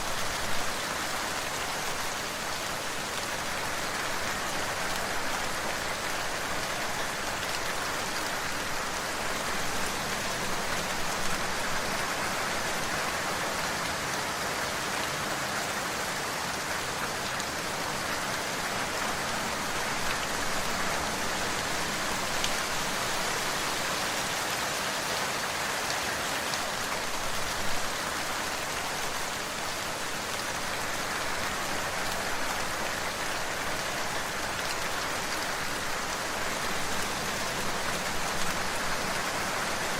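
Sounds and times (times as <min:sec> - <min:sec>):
louder raindrops: 0:00.0 - 0:39.9
rain hissing on a surface: 0:00.0 - 0:39.9.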